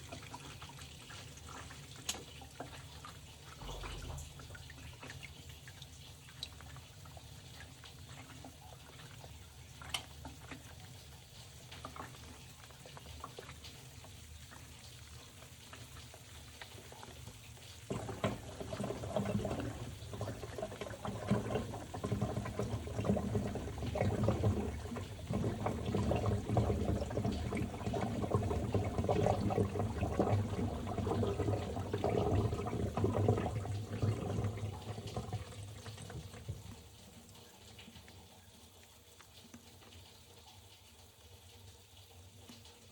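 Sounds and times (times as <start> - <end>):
water pouring into tub: 0.0 - 38.2.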